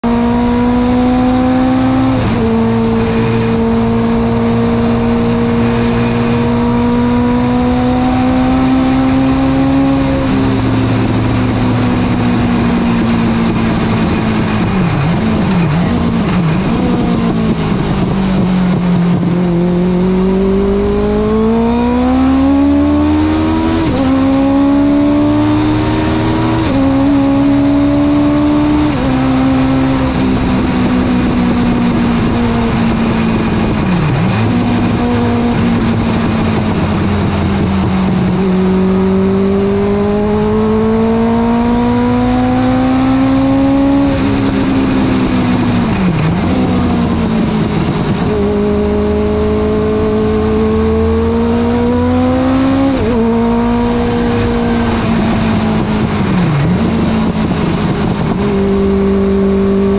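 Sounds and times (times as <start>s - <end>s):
race car engine revving: 0.0s - 59.9s
wind and road noise: 0.0s - 59.9s.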